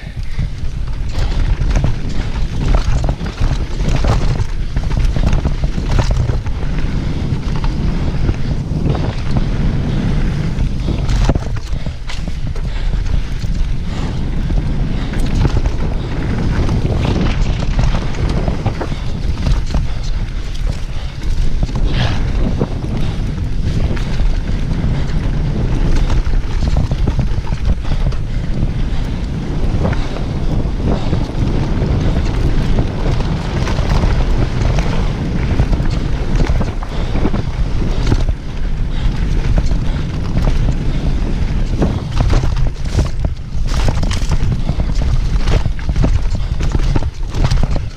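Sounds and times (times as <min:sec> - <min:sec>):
bike clattering and rattling: 0:00.0 - 0:47.9
wind rumbling on microphone: 0:00.0 - 0:47.9.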